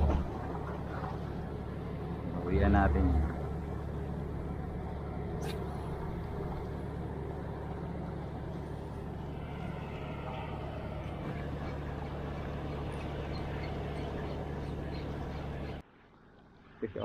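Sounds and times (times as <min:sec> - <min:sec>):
water noise: 0:00.0 - 0:15.8
low engine drone: 0:00.0 - 0:17.0
wind: 0:00.0 - 0:17.0.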